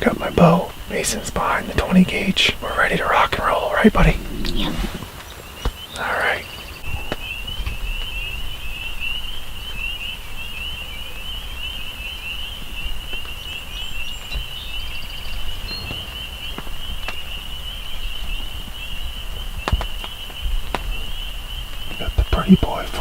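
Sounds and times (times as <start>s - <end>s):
chorus of chirping animal calls: 0.0s - 23.0s
low rumble of wind: 0.0s - 23.0s.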